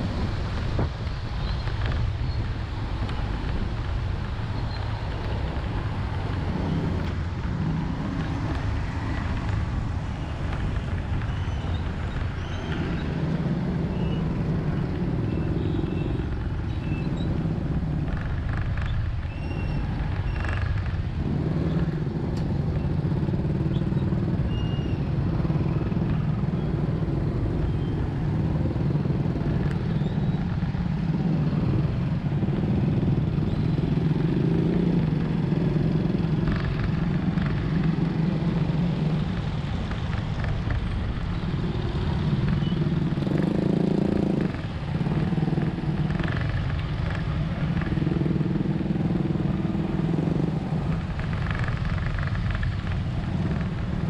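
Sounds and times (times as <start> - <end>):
road noise: 0.0 - 54.0
surrounding traffic: 0.0 - 54.0.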